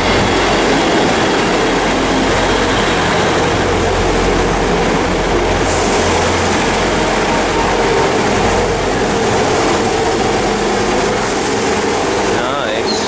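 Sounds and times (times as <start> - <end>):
diesel train engine drone: 0.0 - 13.0
wheel and rail noise: 0.0 - 13.0.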